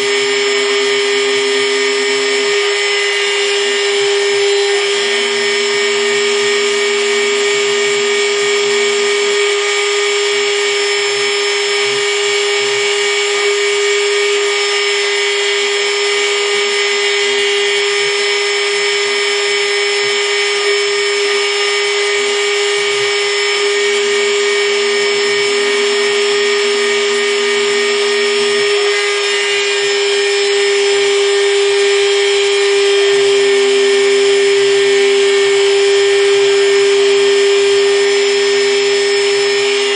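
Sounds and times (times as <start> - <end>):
high motor whine of router spindle: 0.0 - 39.9.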